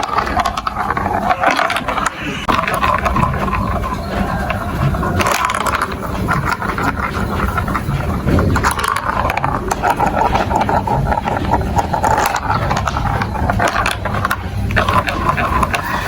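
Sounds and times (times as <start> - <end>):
marbles clattering on plastic track: 0.0 - 16.0.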